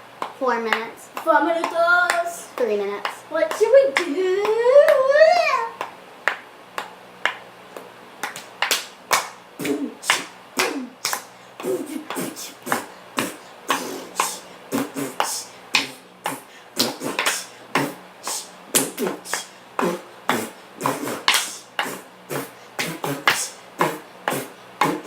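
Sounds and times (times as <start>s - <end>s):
child beatboxing: 0.4s - 5.9s, 8.2s - 25.0s.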